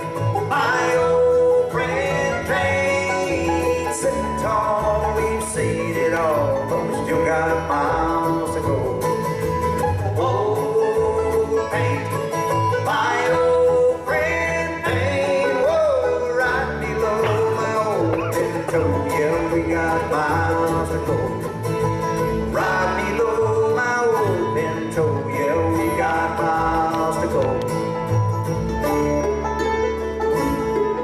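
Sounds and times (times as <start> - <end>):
person singing: 0.0 - 9.4, 10.0 - 21.7, 22.4 - 27.8
bluegrass band playing: 0.0 - 31.0.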